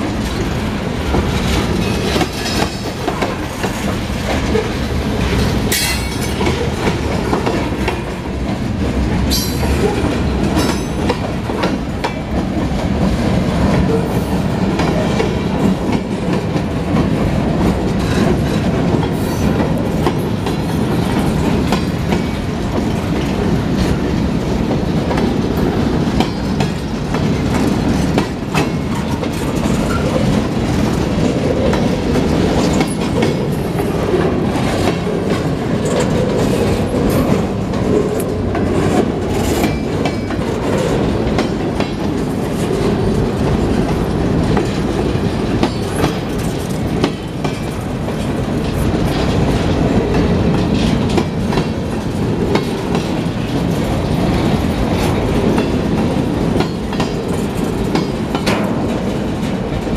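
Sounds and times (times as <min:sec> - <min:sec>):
steel wheels rumbling on rail: 0:00.0 - 0:59.9
wheels clanking over rail joints: 0:00.0 - 0:59.9.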